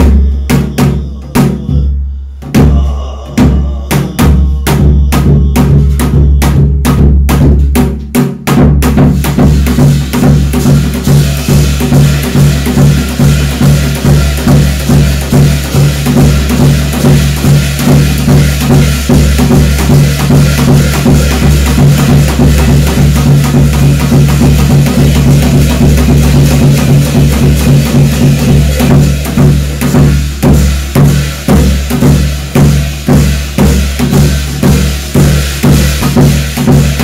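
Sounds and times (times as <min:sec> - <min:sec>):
drums in fast rhythm: 0:00.0 - 0:37.0.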